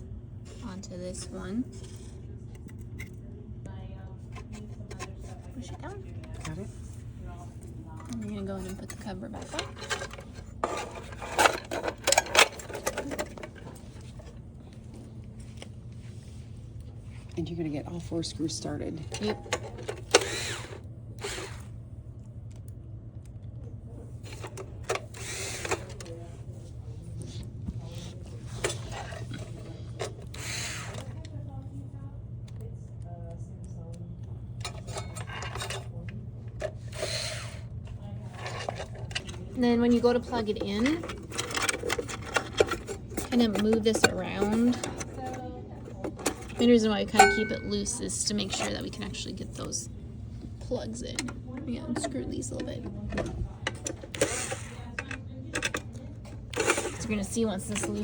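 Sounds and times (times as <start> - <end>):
quiet handling: 0.0 - 58.0
steady low hum: 0.0 - 58.0.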